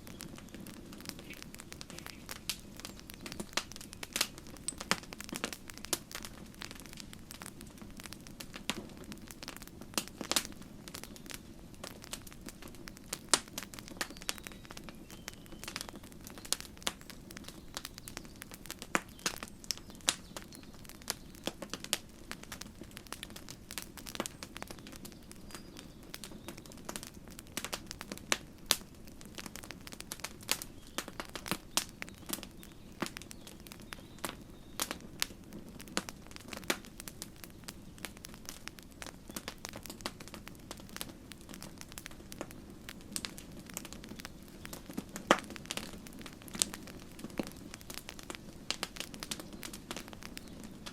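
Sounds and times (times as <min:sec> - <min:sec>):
campfire crackling and popping: 0:00.0 - 0:50.9
low hiss of flames: 0:00.0 - 0:50.9.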